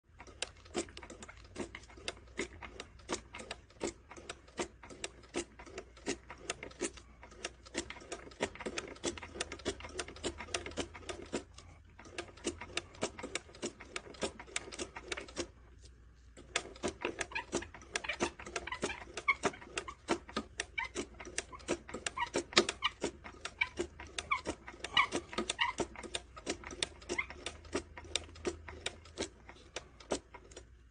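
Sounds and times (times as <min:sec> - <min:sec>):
sewing machine clicking: 0:00.1 - 0:15.6, 0:16.4 - 0:30.9.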